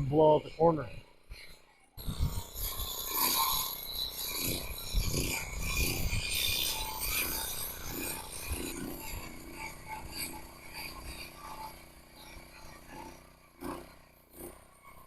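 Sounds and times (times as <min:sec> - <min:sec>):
concrete saw grinding: 0:00.0 - 0:15.0.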